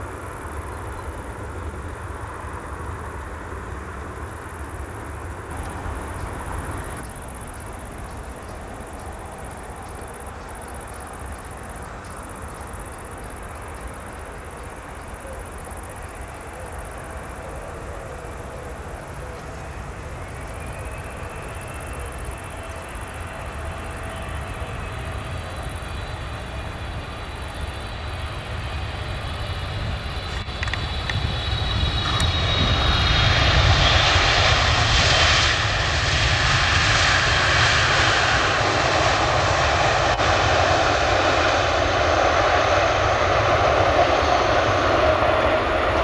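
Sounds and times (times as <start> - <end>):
distant jet engine rumble: 0.0 - 46.0
jet engine whine rising: 2.2 - 15.0, 18.2 - 46.0.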